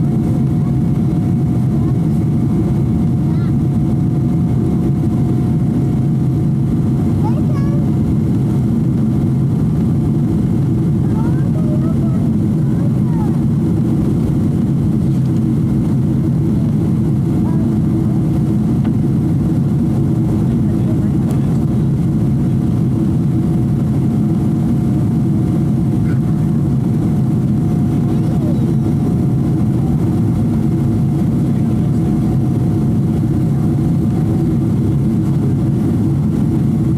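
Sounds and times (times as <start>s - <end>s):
airplane cabin engine and airflow noise: 0.0s - 36.9s.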